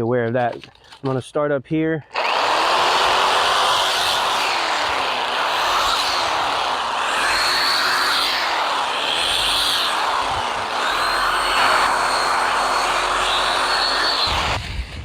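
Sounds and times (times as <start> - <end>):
reciprocating saw cutting wood: 2.1 - 15.0.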